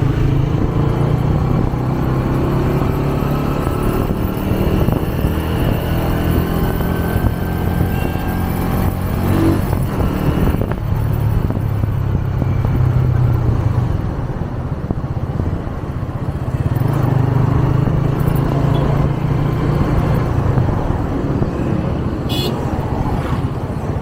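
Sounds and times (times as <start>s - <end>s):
motorcycle engine running: 0.0s - 24.0s
road and wind rush: 0.0s - 24.0s.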